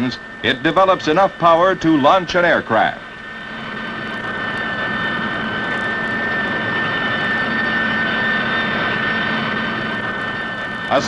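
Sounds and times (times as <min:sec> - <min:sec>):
jet engines whining and roaring: 0:00.0 - 0:11.0.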